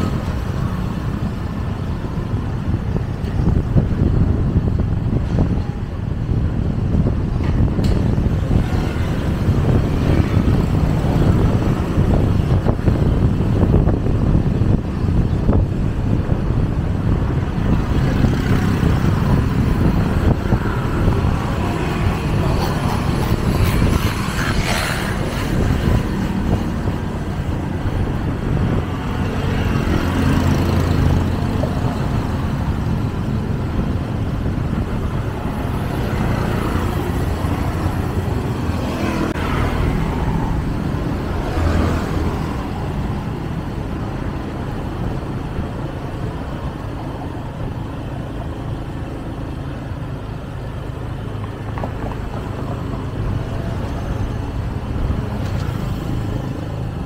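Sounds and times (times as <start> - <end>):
road and traffic noise: 0.0 - 57.0.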